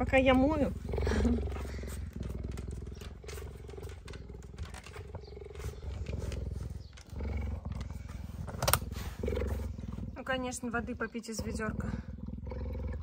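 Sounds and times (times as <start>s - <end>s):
cheetah purring: 0.0s - 13.0s.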